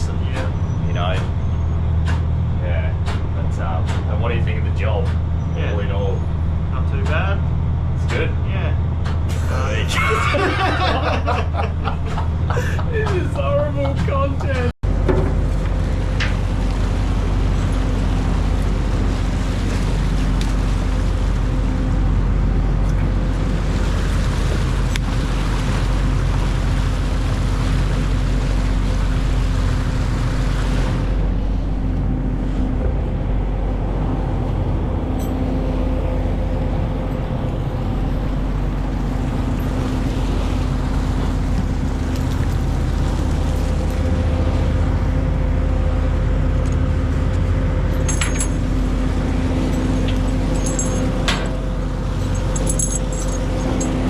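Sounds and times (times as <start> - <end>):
boat engine drone: 0.0 - 54.0
wind: 0.0 - 54.0
water wash: 8.3 - 54.0.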